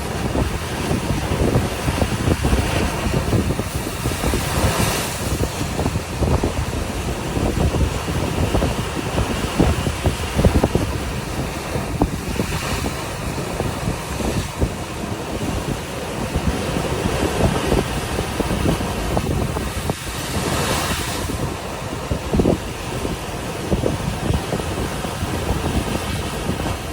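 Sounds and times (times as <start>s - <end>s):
ocean waves crashing on shore: 0.0s - 26.9s
wind buffeting microphone: 0.0s - 26.9s.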